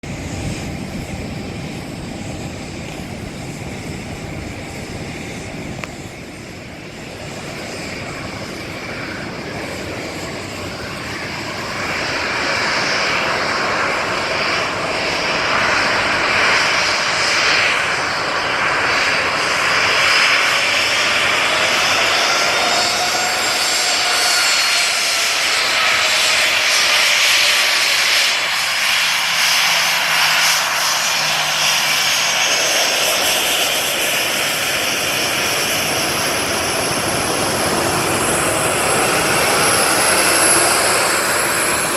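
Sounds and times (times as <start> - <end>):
jet engines at taxi power: 0.0 - 41.9.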